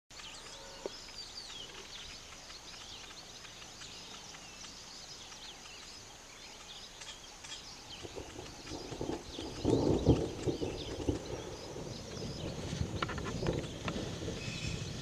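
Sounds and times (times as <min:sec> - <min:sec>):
birds chirping and chattering: 0:00.1 - 0:15.0.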